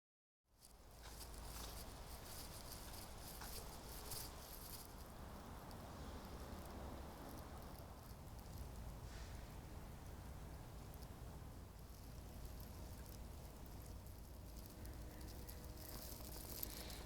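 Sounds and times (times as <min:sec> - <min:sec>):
small ticks: 0:00.6 - 0:09.0, 0:10.8 - 0:17.0
light patter: 0:00.6 - 0:09.2, 0:10.8 - 0:17.0.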